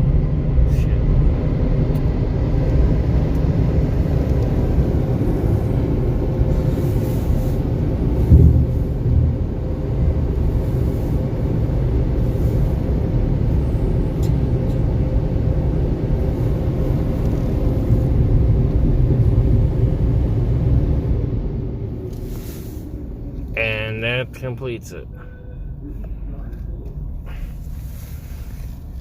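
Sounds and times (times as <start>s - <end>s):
car wash machinery rumbling: 0.0s - 25.4s.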